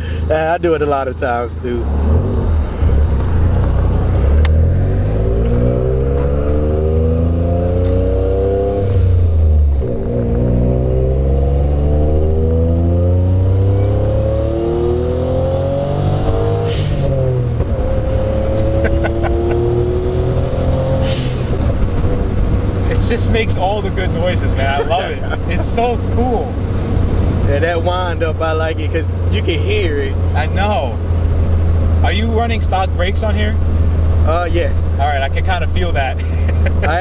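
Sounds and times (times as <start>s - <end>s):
turbocharged engine accelerating: 0.0s - 37.0s.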